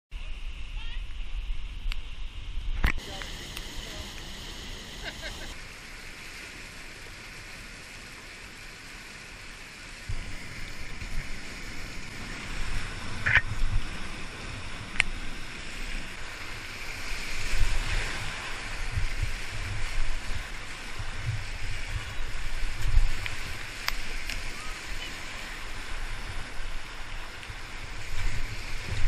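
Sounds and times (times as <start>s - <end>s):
rushing white water: 2.9s - 29.0s.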